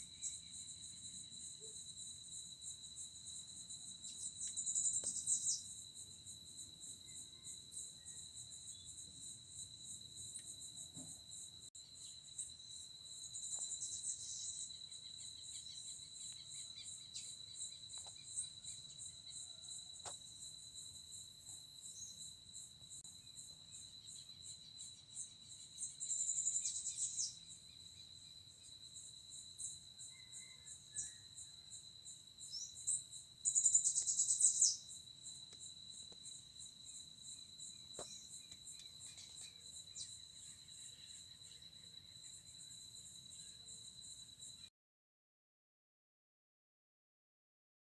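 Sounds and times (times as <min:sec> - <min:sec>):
crickets trilling: 0:00.0 - 0:44.7
insects chirring: 0:00.0 - 0:44.7.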